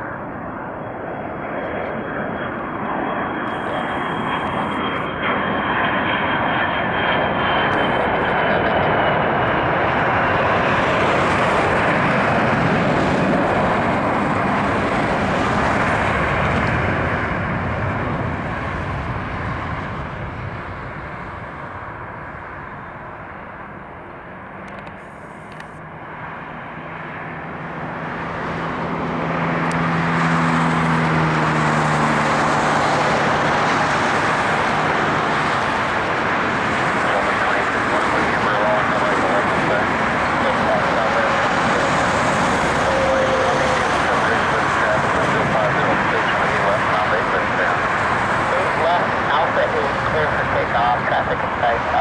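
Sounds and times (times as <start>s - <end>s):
jet airliner landing: 0.0s - 52.0s.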